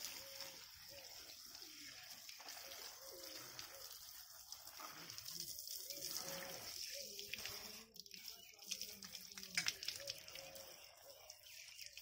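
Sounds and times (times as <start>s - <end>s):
water running from hose: 0.0s - 12.0s.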